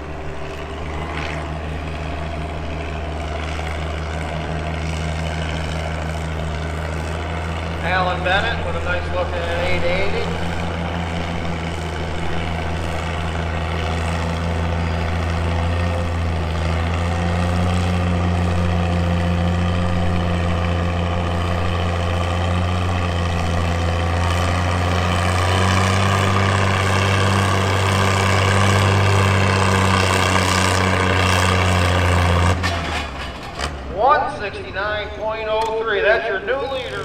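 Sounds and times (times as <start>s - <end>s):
heavy truck engine under load: 0.0s - 37.0s.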